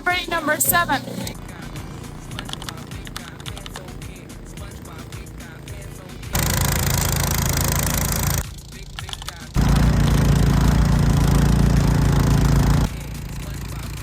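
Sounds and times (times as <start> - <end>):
snow-clearing machine engine: 0.1 - 14.0.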